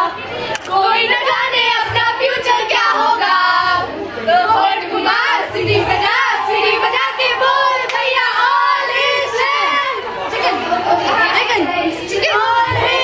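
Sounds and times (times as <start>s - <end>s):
young women singing together: 0.0s - 13.0s.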